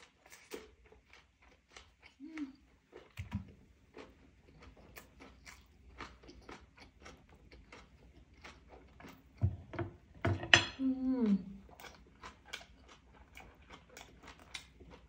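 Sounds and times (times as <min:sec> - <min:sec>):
person chewing: 0:00.0 - 0:10.2, 0:10.8 - 0:15.0.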